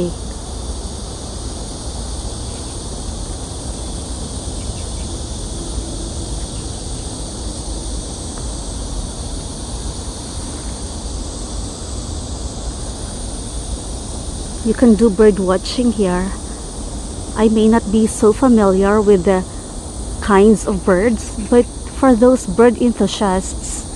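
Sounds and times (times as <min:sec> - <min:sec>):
crickets chirping: 0:00.0 - 0:23.9.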